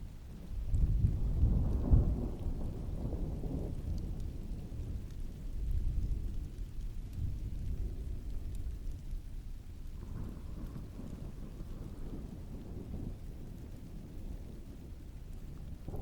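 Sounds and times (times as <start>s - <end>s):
steady rainfall: 0.0s - 16.0s
rolling thunder: 0.4s - 9.0s, 9.8s - 16.0s.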